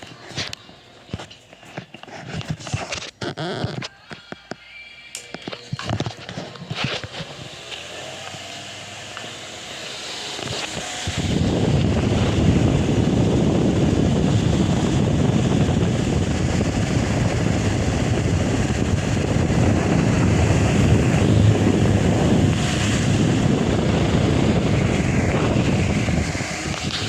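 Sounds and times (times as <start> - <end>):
fan airflow rushing: 0.0 - 3.3, 5.2 - 27.0.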